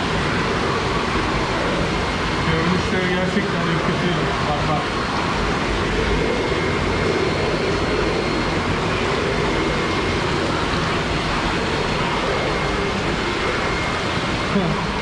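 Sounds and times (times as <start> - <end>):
faint high whine: 0.0 - 15.0
water rushing in fish tanks: 0.0 - 15.0.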